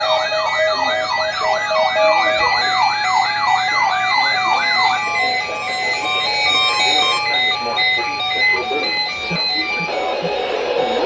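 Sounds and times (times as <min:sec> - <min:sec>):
siren sweeping up and down: 0:00.0 - 0:11.0
steady electronic tones: 0:00.0 - 0:11.0.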